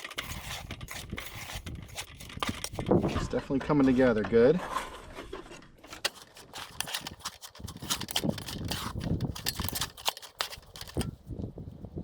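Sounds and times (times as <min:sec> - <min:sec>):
utensil scraping a bowl: 0:00.0 - 0:11.0.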